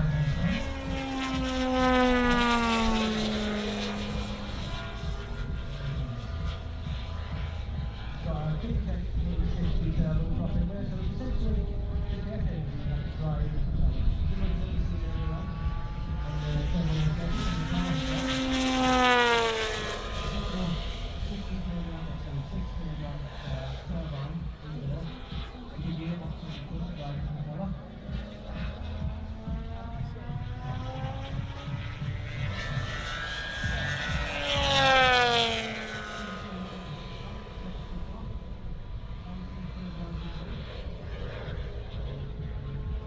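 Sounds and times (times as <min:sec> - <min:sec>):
model plane engine flying past: 0:00.0 - 0:43.0.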